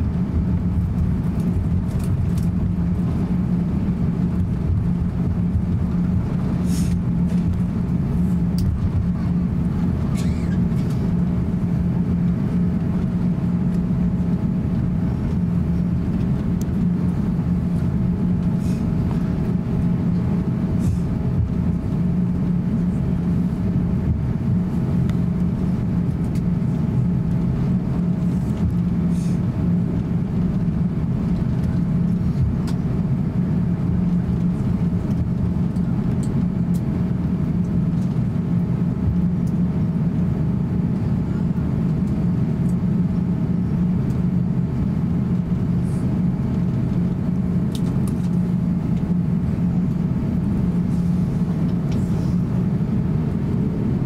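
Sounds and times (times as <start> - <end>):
jet engines idling hum: 0.0 - 54.0.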